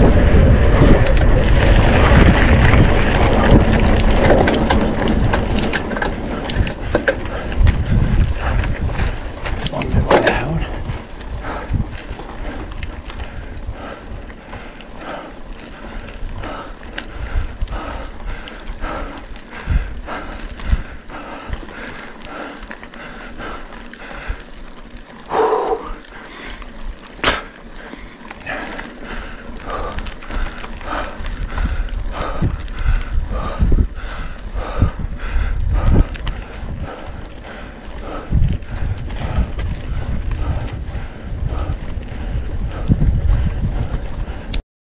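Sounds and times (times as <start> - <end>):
wind on microphone: 0.0 - 22.5, 25.3 - 44.6
bike knocking and rattling: 0.0 - 44.6
bike tyres crunching: 0.0 - 44.6.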